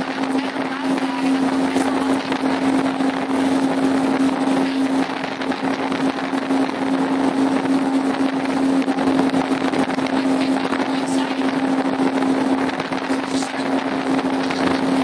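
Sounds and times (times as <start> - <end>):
choppy water against hull: 0.0 - 15.0
motorboat engine humming: 0.0 - 15.0
wind rushing: 0.0 - 15.0.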